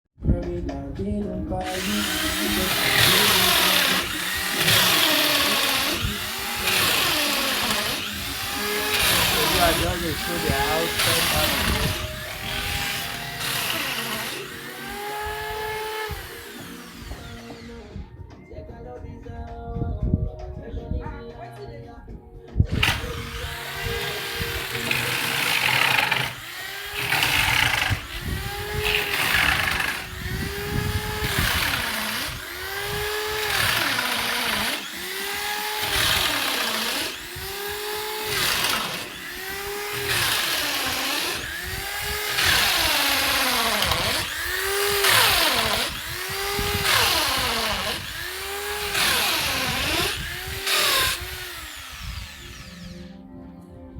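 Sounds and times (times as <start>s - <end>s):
rasping noise: 1.6s - 17.9s, 22.7s - 53.2s
power tool motor whining: 1.6s - 18.2s, 22.7s - 53.2s.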